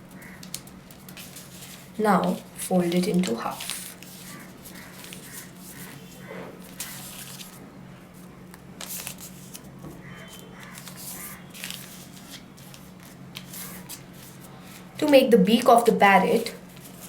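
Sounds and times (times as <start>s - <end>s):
paper rustling and crinkling: 0.2s - 7.6s, 8.2s - 15.2s, 16.3s - 17.0s.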